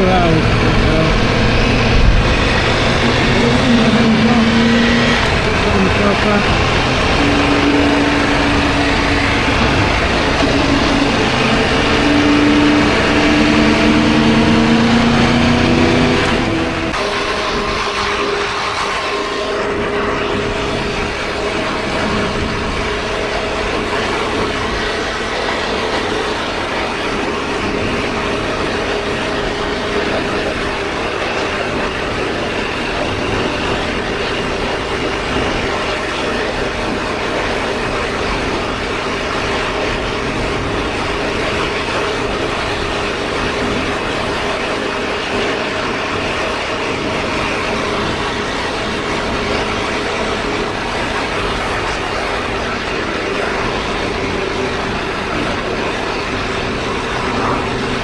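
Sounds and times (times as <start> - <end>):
motorcycle engine cruising: 0.0 - 58.0
road and wind rush: 0.0 - 58.0.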